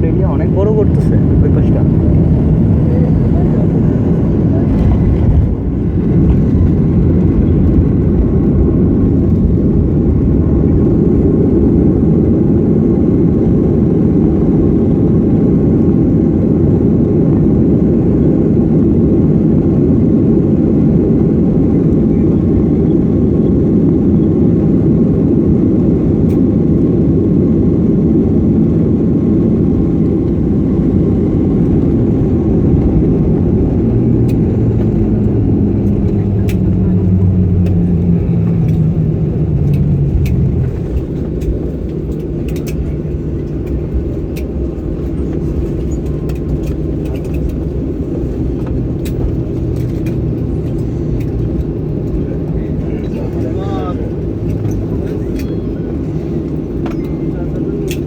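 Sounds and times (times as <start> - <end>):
airliner engines droning: 0.0 - 58.0.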